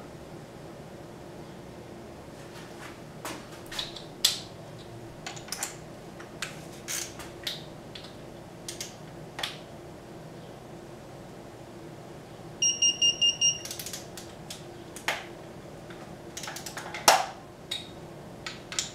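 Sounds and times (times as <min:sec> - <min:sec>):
faint hum: 0:00.0 - 0:18.9.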